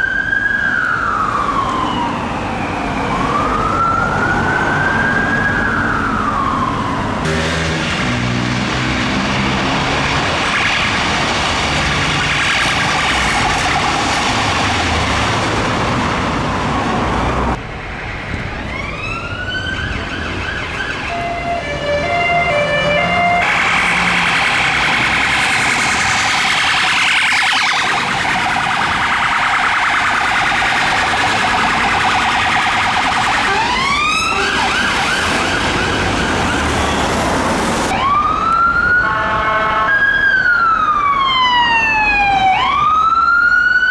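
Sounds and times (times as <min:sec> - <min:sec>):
police sirens wailing and yelping: 0:00.0 - 0:08.3, 0:09.0 - 0:17.6, 0:18.4 - 0:39.3, 0:39.9 - 0:43.9
traffic noise: 0:00.0 - 0:43.9.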